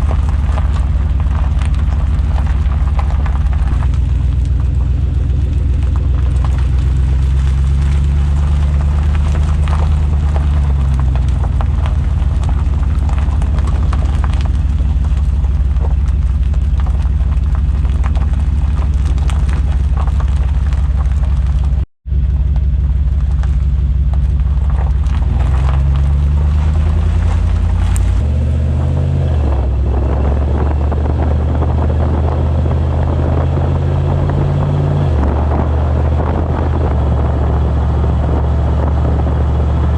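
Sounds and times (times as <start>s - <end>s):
car exhaust running: 0.0s - 39.9s.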